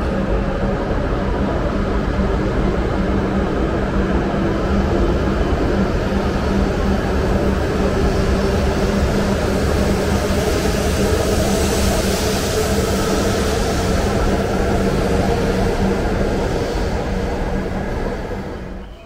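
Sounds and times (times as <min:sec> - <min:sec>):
train rumbling in motion: 0:00.0 - 0:19.0.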